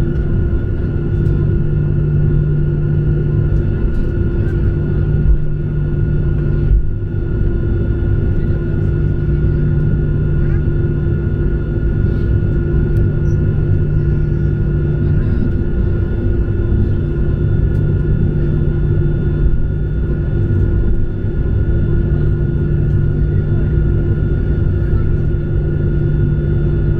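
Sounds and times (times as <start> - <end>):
jet engines rumbling: 0.0 - 26.9
steady engine whine: 0.0 - 26.9.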